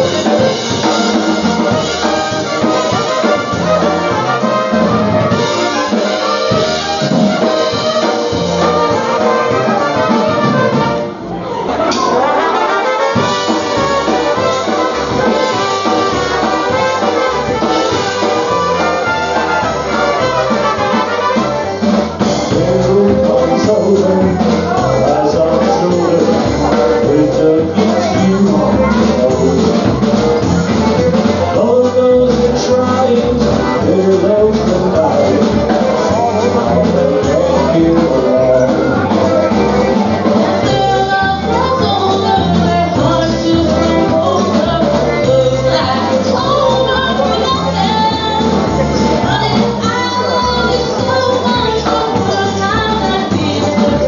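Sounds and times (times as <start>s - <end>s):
brass leading melody: 0.0s - 54.0s
polka band playing: 0.0s - 54.0s.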